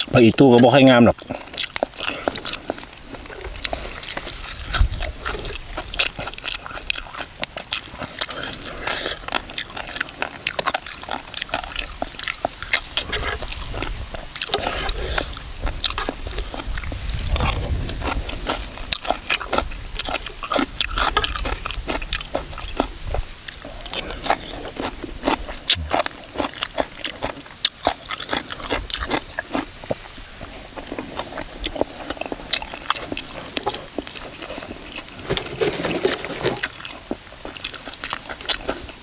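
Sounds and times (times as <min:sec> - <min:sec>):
wet chewing and smacking: 0:00.0 - 0:39.0.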